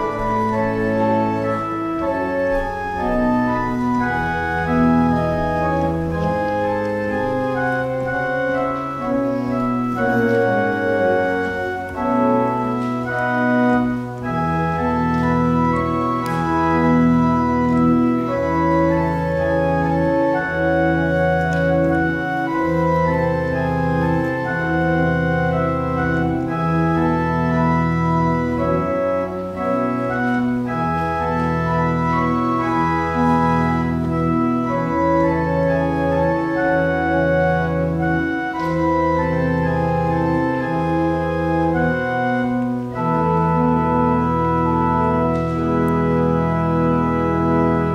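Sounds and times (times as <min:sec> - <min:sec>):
organ playing slow chords: 0:00.0 - 0:47.9.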